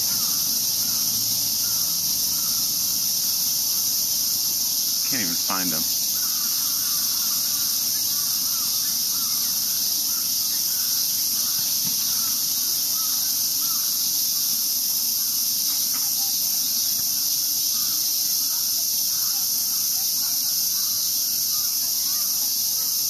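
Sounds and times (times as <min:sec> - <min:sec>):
cicadas shrilling: 0:00.0 - 0:23.0.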